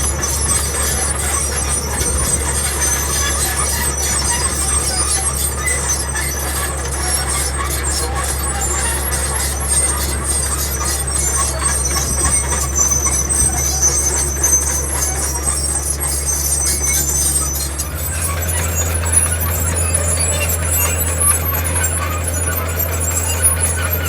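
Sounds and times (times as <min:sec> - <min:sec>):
heavy diesel machine running: 0:00.0 - 0:24.0
high metallic squealing: 0:00.0 - 0:24.0.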